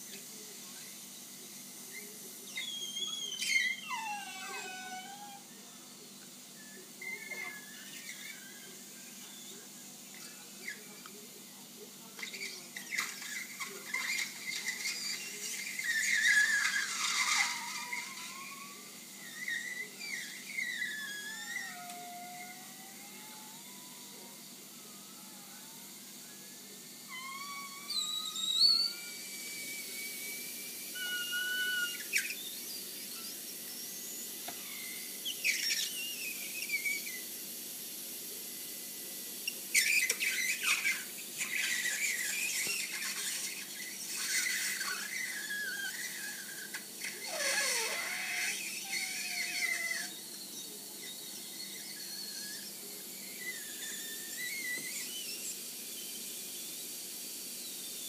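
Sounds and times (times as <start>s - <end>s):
waffle maker steam squealing: 0.0s - 58.0s.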